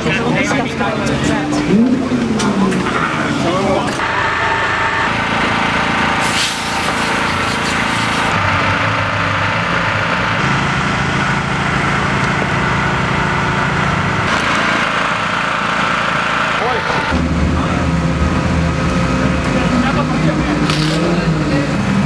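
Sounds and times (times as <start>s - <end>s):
rally car engine running: 0.0s - 22.0s.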